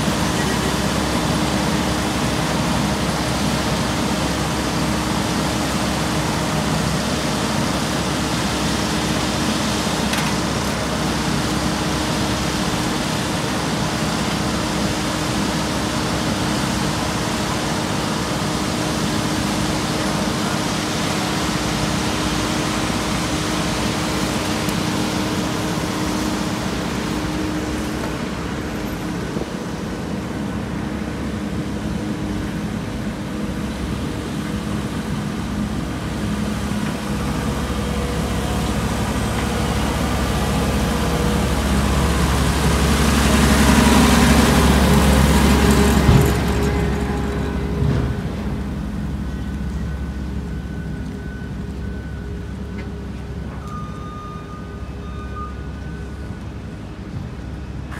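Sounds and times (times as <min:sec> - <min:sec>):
diesel engines running: 0:00.0 - 0:57.9
road roller deep rumble: 0:00.0 - 0:57.9.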